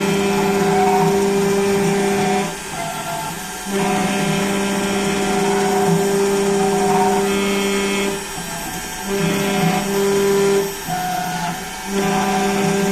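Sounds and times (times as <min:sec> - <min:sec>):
engraving machine motor whine: 0:00.0 - 0:12.9.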